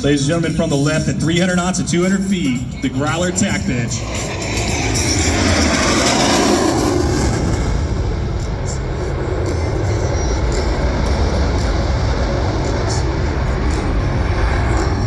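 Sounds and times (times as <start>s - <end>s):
jets passing low: 0.0s - 15.0s.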